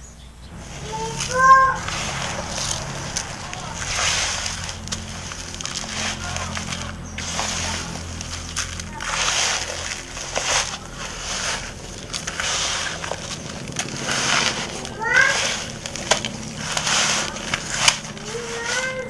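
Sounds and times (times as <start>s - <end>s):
gritty grains rustling and crunching: 0.4s - 19.0s.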